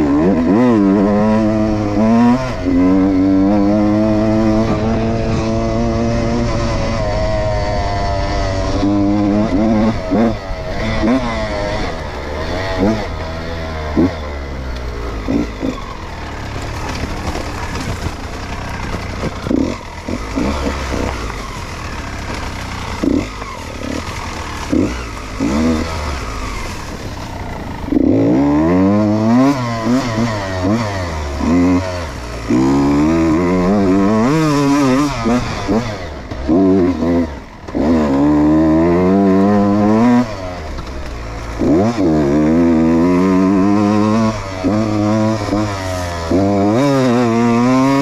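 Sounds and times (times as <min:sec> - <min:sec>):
two-stroke motorcycle engine revving: 0:00.0 - 0:48.0.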